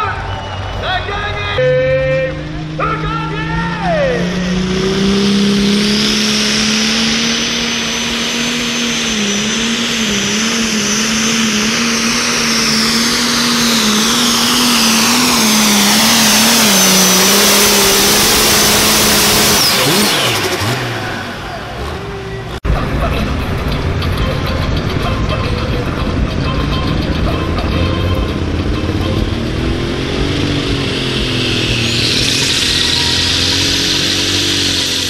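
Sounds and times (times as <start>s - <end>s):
diesel tractor engine under load: 0.0s - 35.0s
high turbo whine: 0.0s - 35.0s.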